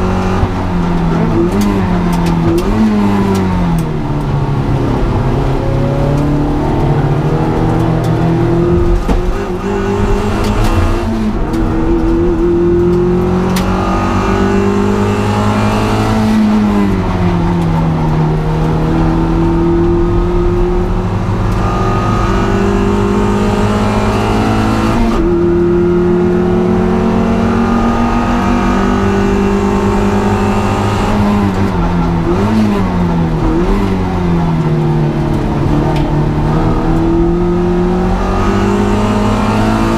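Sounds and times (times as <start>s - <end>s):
car engine revving hard: 4.7s - 17.1s, 18.3s - 39.9s.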